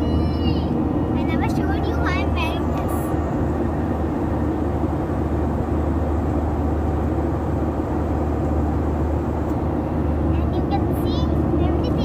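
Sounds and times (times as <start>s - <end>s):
airliner engines droning in cabin: 0.0s - 12.0s.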